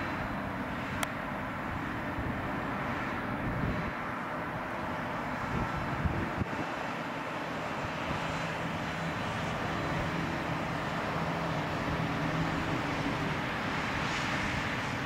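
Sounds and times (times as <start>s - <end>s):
forage harvester engine drone: 0.0s - 15.0s.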